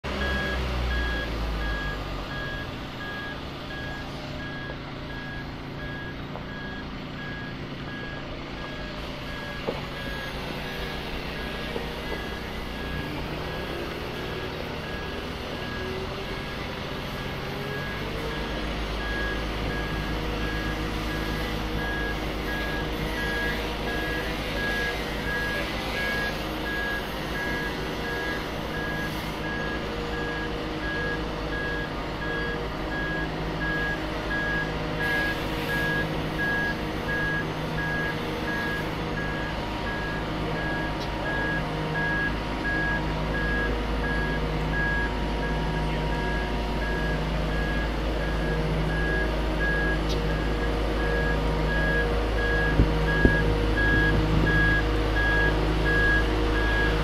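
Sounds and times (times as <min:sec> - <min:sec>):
engine humming: 0:00.0 - 0:57.0
motion alarm beeping: 0:00.2 - 0:57.0.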